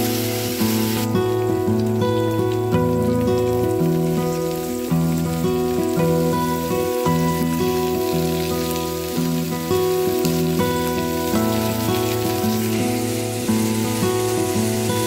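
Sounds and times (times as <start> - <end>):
instrumental background music: 0.0 - 15.0
vegetables sizzling in a frying pan: 0.0 - 15.0.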